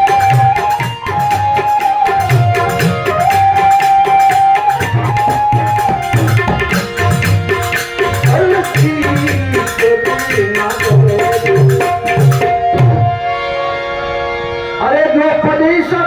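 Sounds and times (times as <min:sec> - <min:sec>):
hand drum beat: 0:00.0 - 0:13.1
held melody line: 0:00.0 - 0:16.0.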